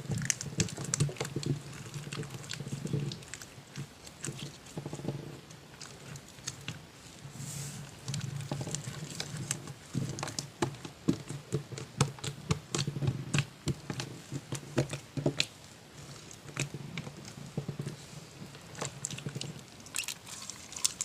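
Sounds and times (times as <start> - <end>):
slime squelching and popping: 0.0 - 6.8, 7.9 - 21.0.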